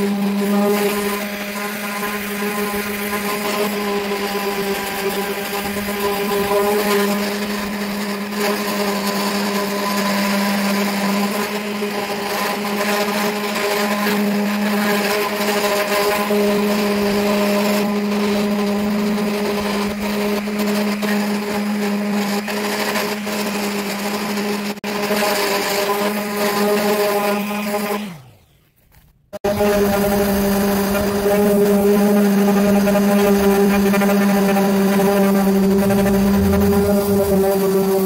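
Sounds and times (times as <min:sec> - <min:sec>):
orbital sander grinding paint: 0:00.0 - 0:38.0.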